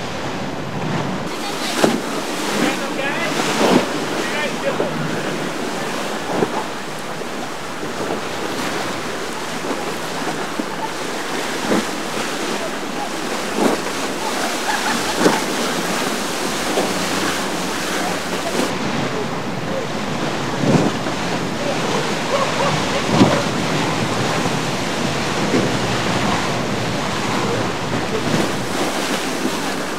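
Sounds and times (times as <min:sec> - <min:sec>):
boat engines humming: 0:00.0 - 0:29.9
waves washing: 0:00.0 - 0:29.9
wind buffeting microphone: 0:00.0 - 0:29.9.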